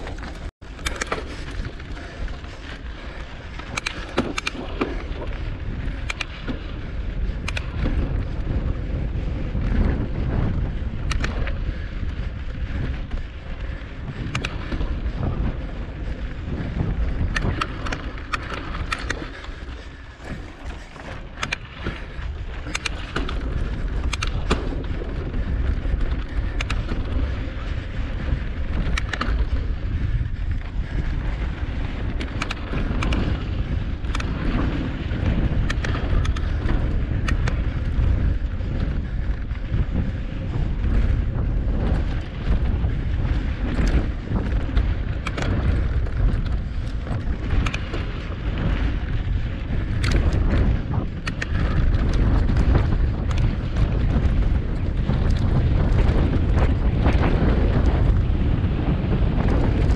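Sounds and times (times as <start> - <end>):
bike rattling over stones: 0.0 - 59.9
wind buffeting microphone: 0.0 - 59.9.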